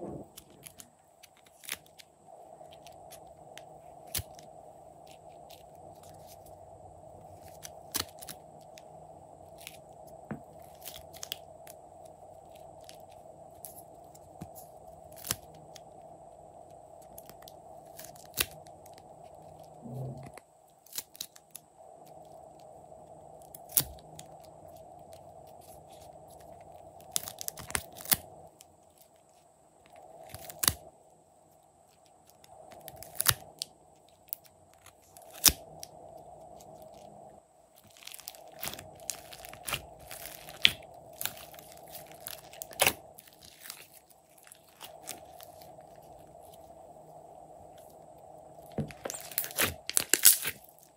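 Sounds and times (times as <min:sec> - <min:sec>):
steady hum: 0:00.0 - 0:50.9.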